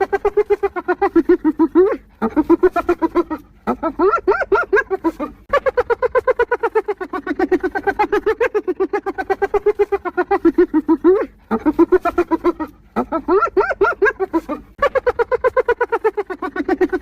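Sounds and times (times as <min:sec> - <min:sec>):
hyena giggling: 0:00.0 - 0:17.0.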